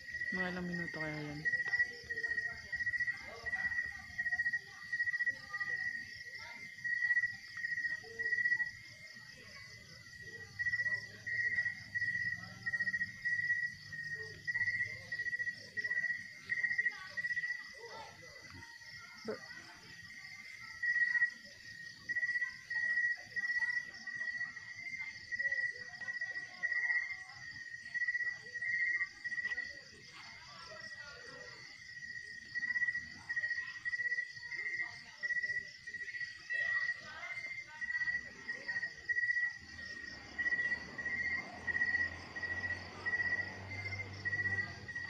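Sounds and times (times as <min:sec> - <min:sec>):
crickets trilling: 0:00.0 - 0:45.0
high-pitched insect chorus: 0:00.0 - 0:45.0.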